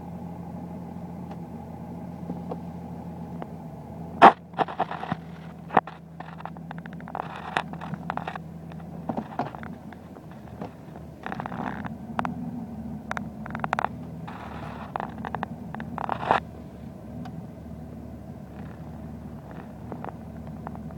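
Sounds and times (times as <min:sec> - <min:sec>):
diesel engine idling roughly: 0:00.0 - 0:20.9
engine knocks and clatter: 0:00.0 - 0:20.9.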